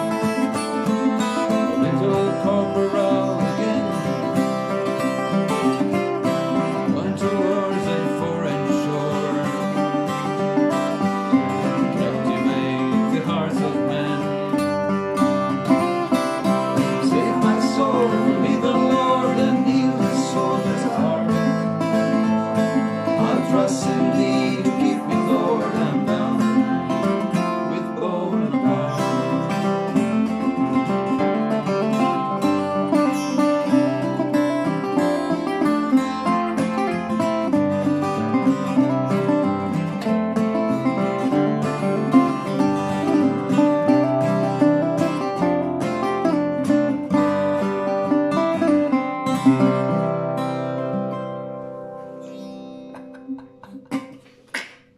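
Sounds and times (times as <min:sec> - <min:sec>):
acoustic guitar picking: 0:00.0 - 0:54.9
resonator guitar: 0:00.0 - 0:54.9.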